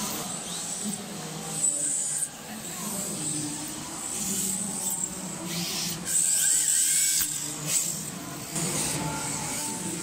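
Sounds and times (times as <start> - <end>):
electric rc cars whining: 0.0 - 10.0.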